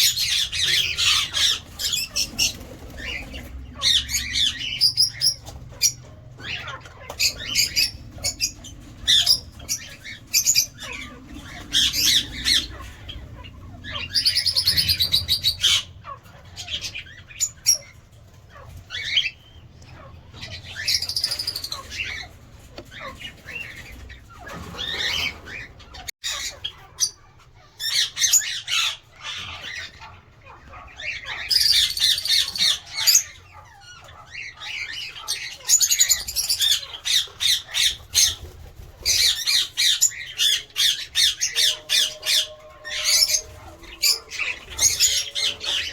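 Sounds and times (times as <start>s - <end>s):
lovebirds chirping and squawking: 0.0s - 45.9s.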